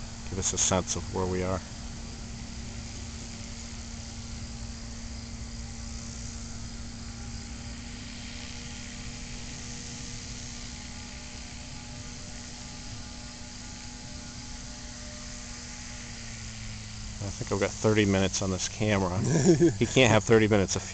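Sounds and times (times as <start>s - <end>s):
small engine droning: 0.0s - 20.9s.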